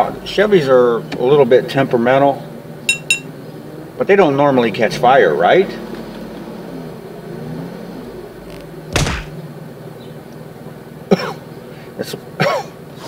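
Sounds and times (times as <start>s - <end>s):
car engine idling hum: 0.0s - 13.0s.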